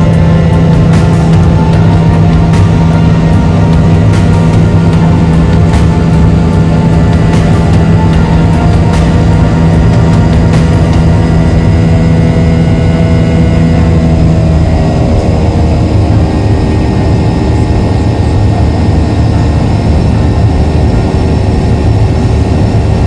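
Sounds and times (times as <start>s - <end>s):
jet engines roaring in cabin: 0.0s - 23.0s.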